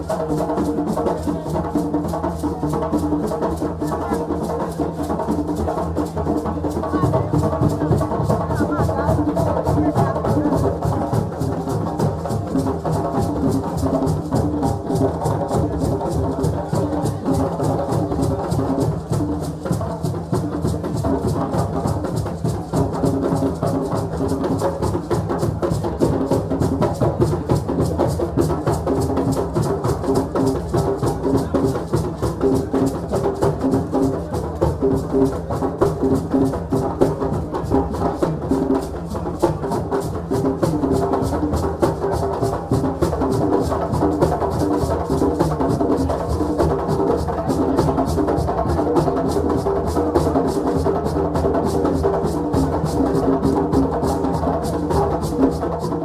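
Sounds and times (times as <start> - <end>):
busy pitched percussion layer: 0.0 - 56.0
fast drumming: 0.0 - 56.0.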